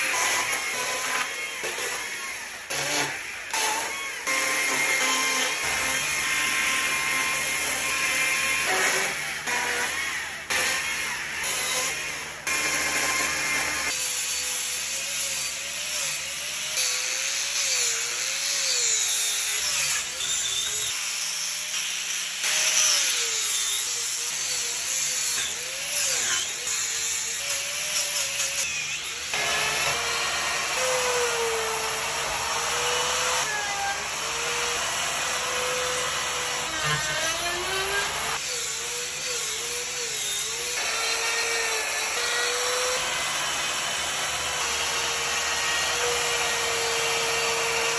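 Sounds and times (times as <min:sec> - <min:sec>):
die grinder carving wood: 0:00.0 - 0:47.9.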